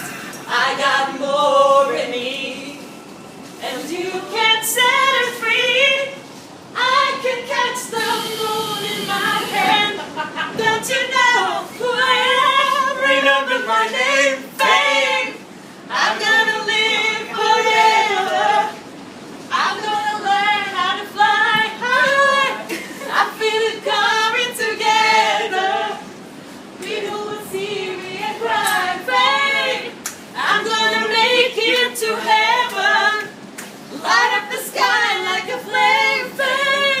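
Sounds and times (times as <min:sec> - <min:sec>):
girls singing in chorus: 0:00.0 - 0:02.8, 0:03.6 - 0:18.8, 0:19.5 - 0:26.1, 0:26.8 - 0:37.0.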